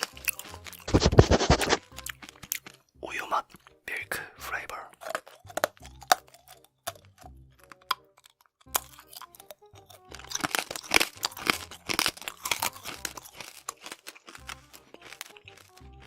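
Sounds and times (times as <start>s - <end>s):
crunching while eating: 0.0s - 2.9s, 4.6s - 16.0s.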